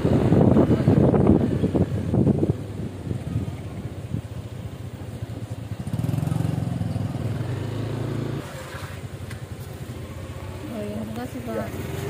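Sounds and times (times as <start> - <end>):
motor scooter engine: 0.0 - 12.0.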